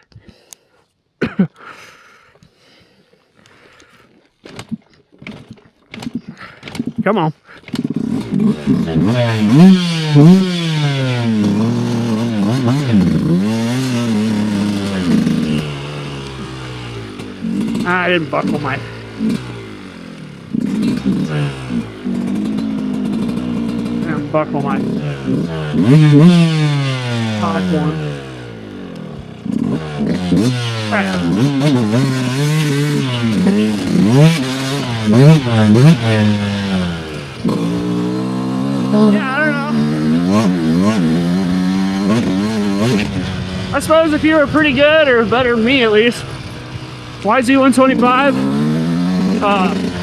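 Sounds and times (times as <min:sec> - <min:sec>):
dirt bike engine revving: 0:03.8 - 0:50.0.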